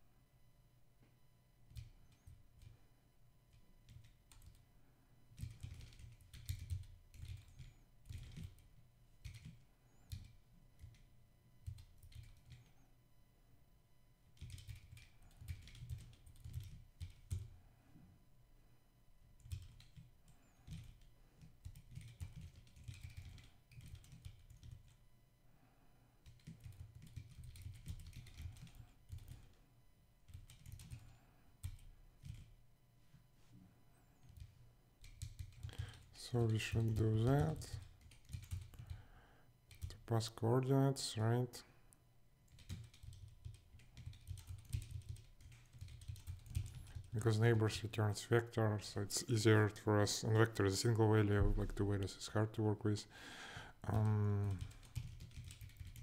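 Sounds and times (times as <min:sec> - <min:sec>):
faint keyboard typing: 0:01.0 - 0:12.9, 0:14.2 - 0:18.1, 0:19.3 - 0:32.7, 0:33.9 - 0:41.1, 0:41.9 - 0:56.0.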